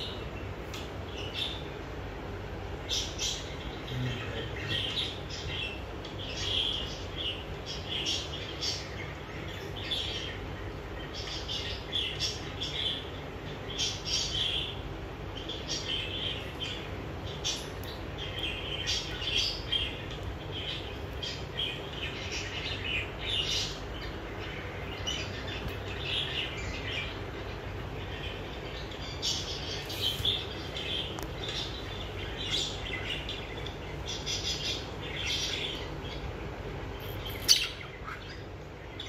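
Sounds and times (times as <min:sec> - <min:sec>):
low steady hum: 0:00.0 - 0:39.0
budgerigars chirping: 0:02.8 - 0:36.3, 0:37.1 - 0:39.0.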